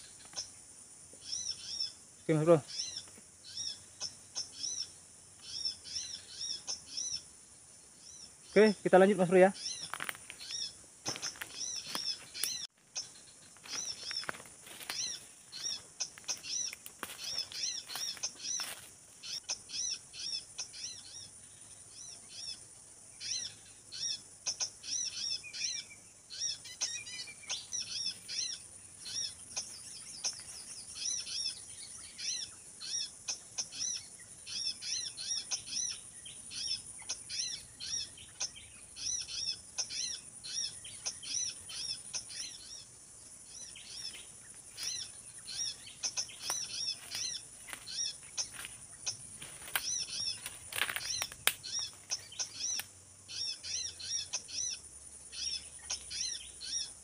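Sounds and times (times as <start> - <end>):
small songbirds chirping: 0.0 - 57.0
steady high-pitched hiss: 0.0 - 57.0.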